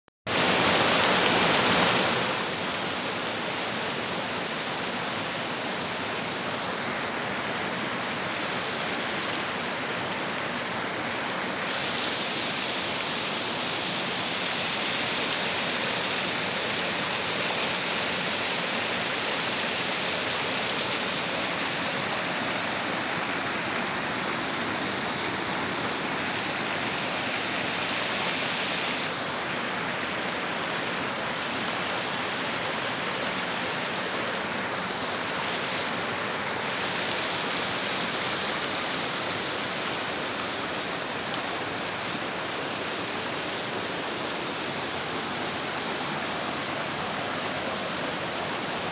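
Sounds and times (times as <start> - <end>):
water rushing over rocks: 0.3 - 48.9.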